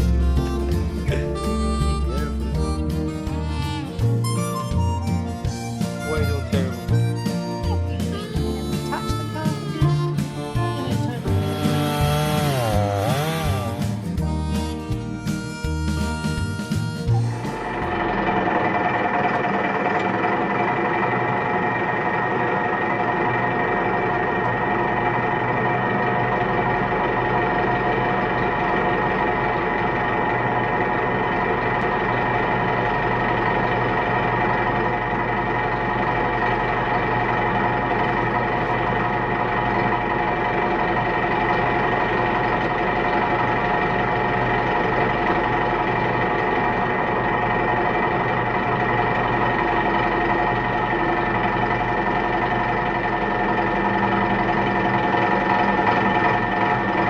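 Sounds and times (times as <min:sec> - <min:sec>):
constant whine: 0:00.0 - 0:57.0
vehicle engine running: 0:00.0 - 0:57.0.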